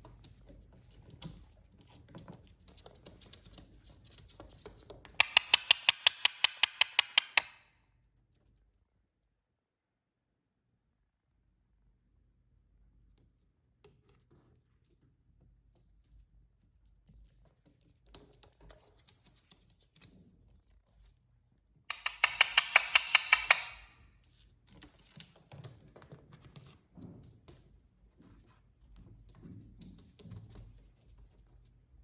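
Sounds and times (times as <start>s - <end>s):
faint clicking and scratching: 0.0s - 7.5s, 12.8s - 32.0s.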